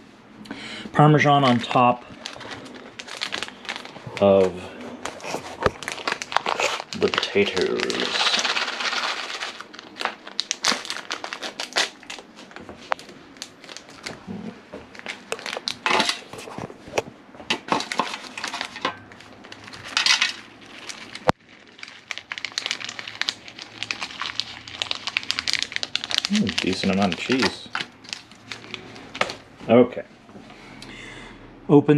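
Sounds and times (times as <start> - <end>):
plastic packet crinkling: 1.4 - 16.6, 17.7 - 29.5.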